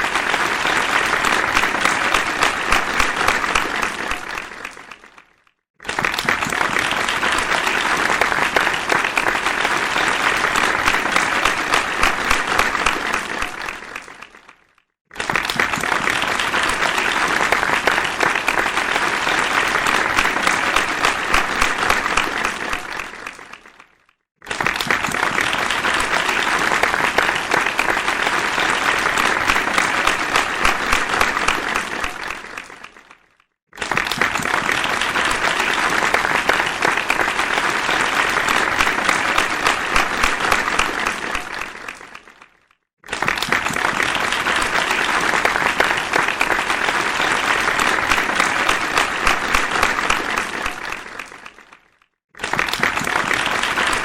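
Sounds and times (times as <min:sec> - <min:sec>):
crowd applause: 0:00.0 - 0:54.0.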